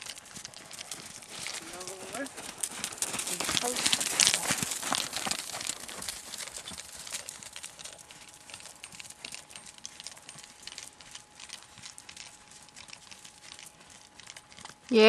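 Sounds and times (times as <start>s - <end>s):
horse hoofbeats on sand: 0.0s - 15.0s.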